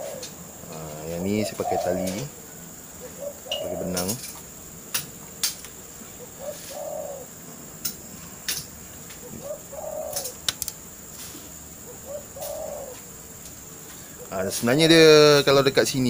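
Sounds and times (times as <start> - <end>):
dove cooing: 0.0 - 4.5, 5.2 - 14.6.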